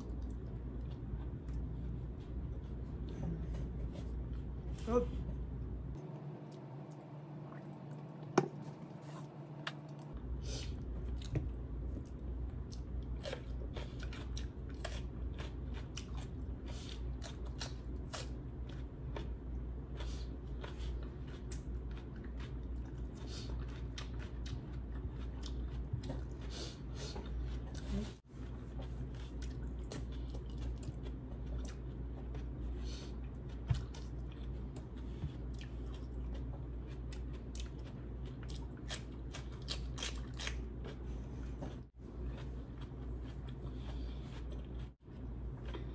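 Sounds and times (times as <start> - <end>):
person chewing food: 0.0 - 4.7, 5.3 - 45.9
steady low hum: 0.0 - 45.9.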